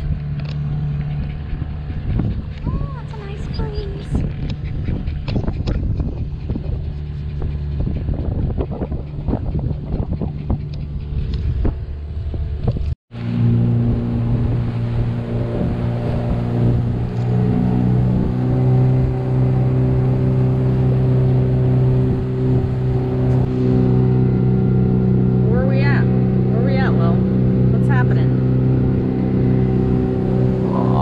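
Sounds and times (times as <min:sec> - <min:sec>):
outboard motor droning: 0:00.0 - 0:31.0
wind buffeting microphone: 0:00.0 - 0:31.0.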